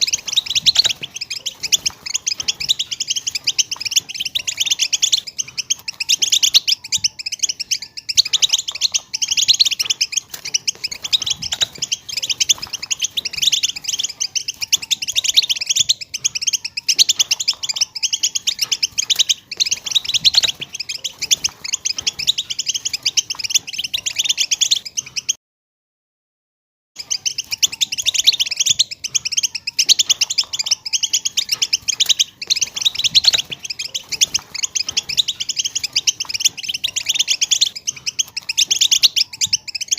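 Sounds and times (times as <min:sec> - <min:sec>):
goldfinches twittering: 0:00.0 - 0:25.4, 0:27.0 - 0:39.9.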